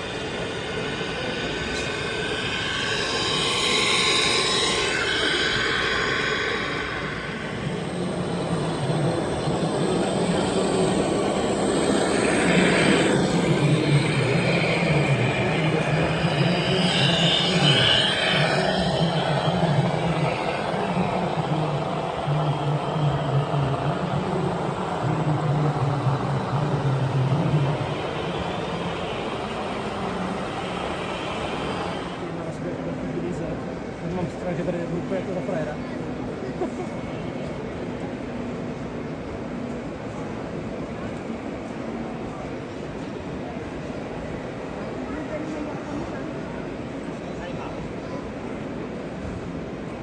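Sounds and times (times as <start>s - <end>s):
engine-like hum: 0.0s - 41.8s
constant rushing noise: 0.0s - 50.0s.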